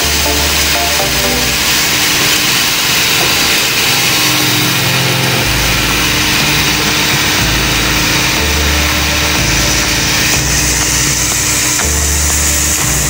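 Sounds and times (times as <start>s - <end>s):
background music with bass: 0.0s - 13.0s
machine motors running: 0.0s - 13.0s.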